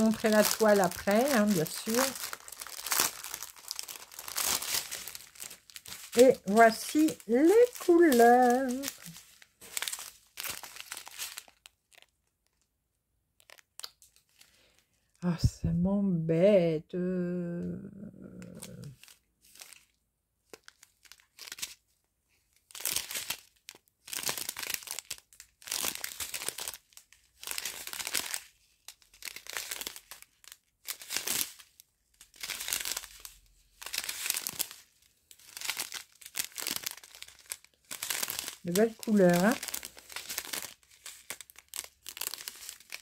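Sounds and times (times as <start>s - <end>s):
plastic sachets crinkling: 0.0s - 12.7s, 13.4s - 15.1s, 18.3s - 43.0s.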